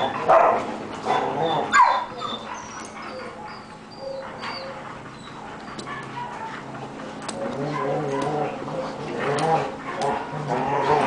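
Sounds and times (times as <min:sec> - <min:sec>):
dogs barking: 0:00.0 - 0:11.0.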